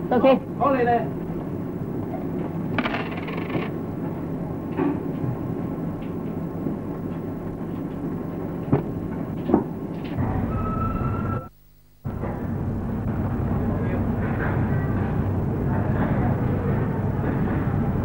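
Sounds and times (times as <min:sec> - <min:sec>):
faint hum: 0:00.0 - 0:18.0
low background rumble: 0:00.0 - 0:18.0.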